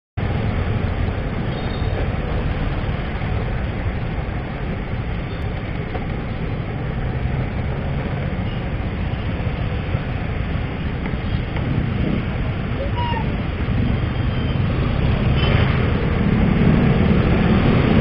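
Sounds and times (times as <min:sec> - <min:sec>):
motorcycle engine rumble: 0:00.2 - 0:18.0
road noise: 0:00.2 - 0:18.0.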